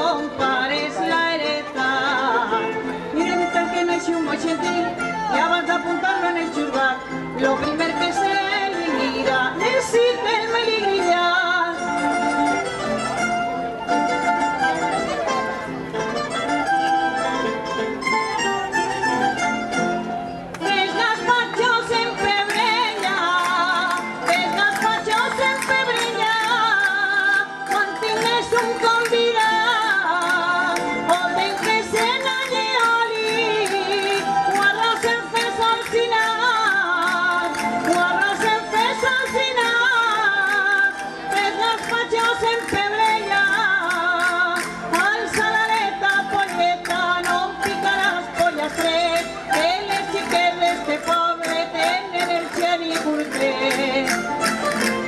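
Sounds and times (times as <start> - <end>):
plucked-string band of guitars: 0.0 - 55.0.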